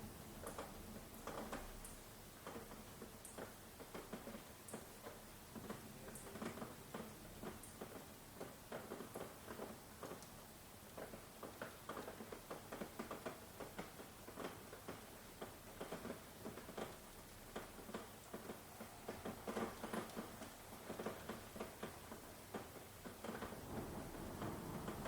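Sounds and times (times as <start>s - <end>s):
raindrops striking a surface: 0.0s - 25.0s
soft background hiss: 0.0s - 25.0s.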